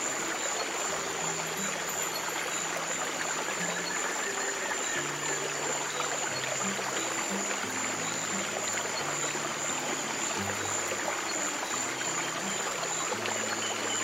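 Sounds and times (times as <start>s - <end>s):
stream rushing and trickling: 0.0s - 14.0s.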